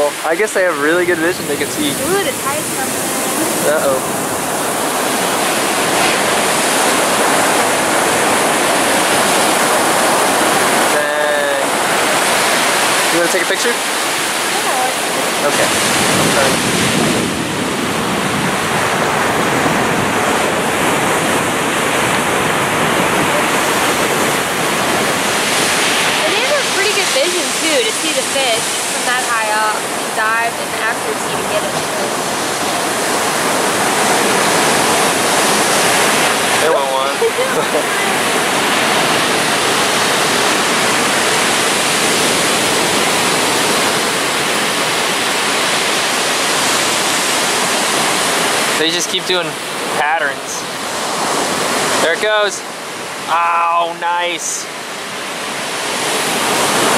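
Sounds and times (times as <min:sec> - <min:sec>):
ocean waves breaking on beach: 0:00.0 - 0:56.9.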